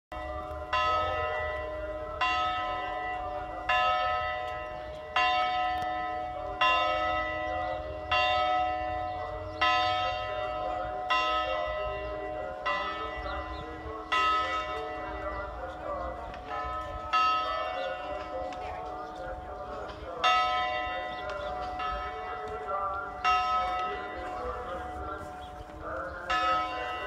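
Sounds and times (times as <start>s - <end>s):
church bell tolling: 0.1s - 27.0s.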